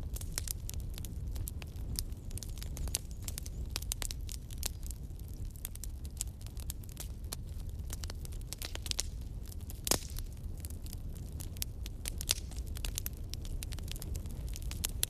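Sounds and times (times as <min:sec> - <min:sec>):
fire crackling and popping: 0:00.0 - 0:15.0
low rumble of fire: 0:00.0 - 0:15.0.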